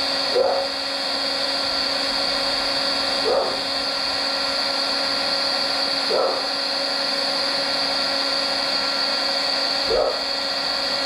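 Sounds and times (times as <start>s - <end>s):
heat gun whirring hiss: 0.0s - 11.0s.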